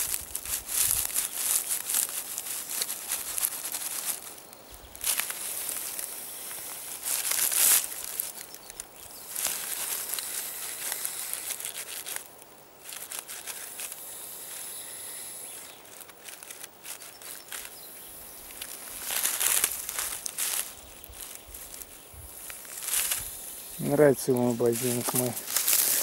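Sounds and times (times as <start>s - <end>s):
dry leaves rustling: 0.0s - 26.0s
snake hissing: 5.0s - 26.0s.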